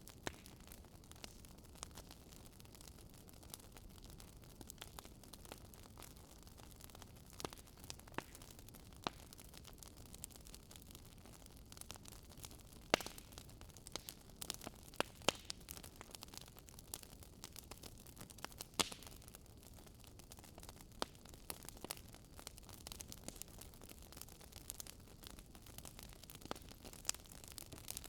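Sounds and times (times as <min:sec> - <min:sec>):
firewood crackling: 0:00.0 - 0:28.0.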